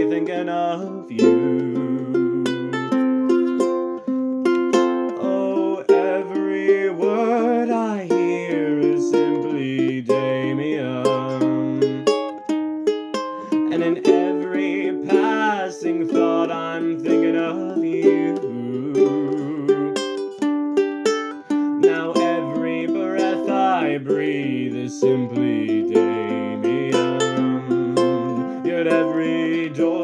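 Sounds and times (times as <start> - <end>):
plucked string chords and melody: 0.0 - 30.0.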